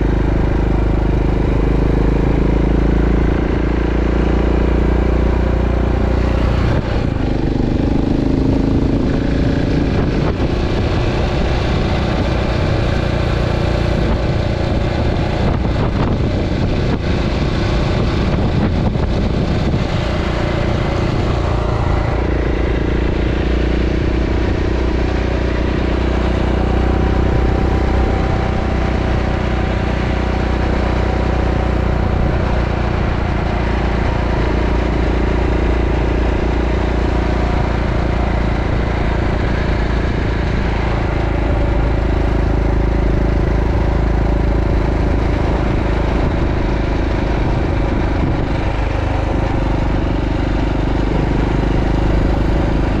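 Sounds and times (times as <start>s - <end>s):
motorcycle engine cruising: 0.0s - 53.0s
wind rumble on microphone: 0.0s - 53.0s.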